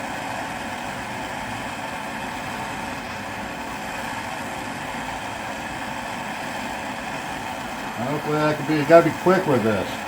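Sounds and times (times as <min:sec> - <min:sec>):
gas torch hissing: 0:00.0 - 0:10.0.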